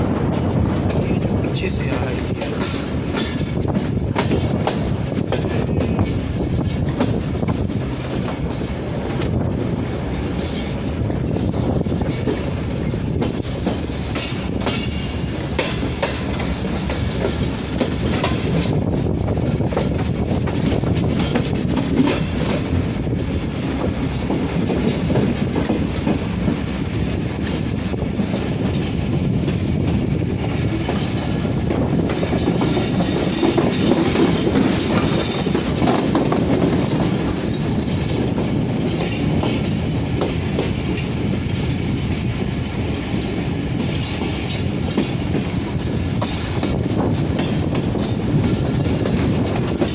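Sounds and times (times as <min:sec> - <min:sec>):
clickety-clack over rail joints: 0:00.0 - 0:49.9
train wheels rumbling on rails: 0:00.0 - 0:49.9.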